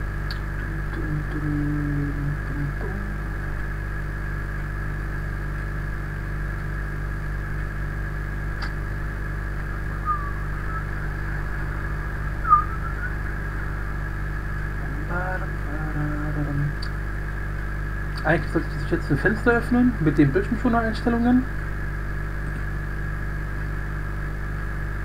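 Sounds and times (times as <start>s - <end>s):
electrical mains hum and hiss: 0.0s - 25.0s.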